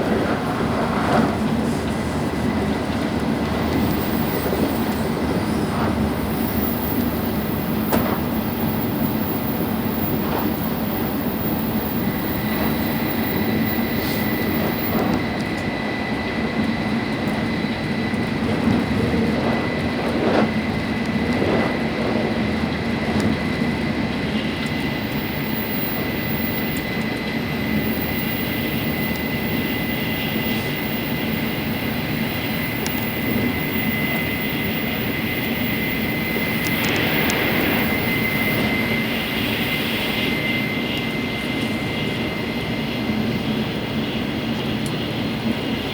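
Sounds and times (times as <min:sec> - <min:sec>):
train running noise inside car: 0:00.0 - 0:45.9.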